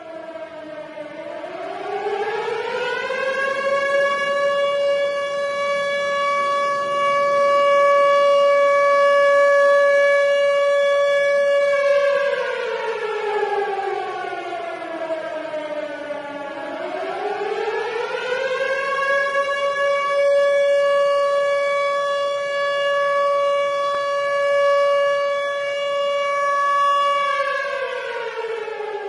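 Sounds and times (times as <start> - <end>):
siren alarm: 0.0 - 29.0.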